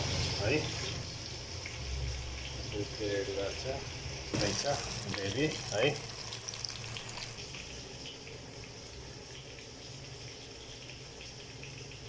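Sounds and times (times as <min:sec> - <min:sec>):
gravy bubbling in a pan: 0:00.0 - 0:12.0.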